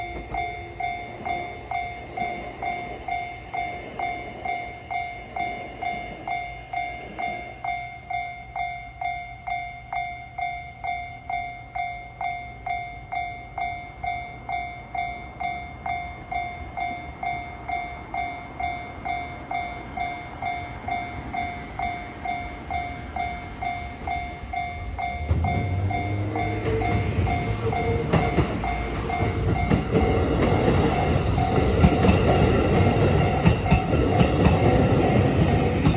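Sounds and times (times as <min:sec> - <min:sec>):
electric train rumbling on rails: 0:00.0 - 0:35.9.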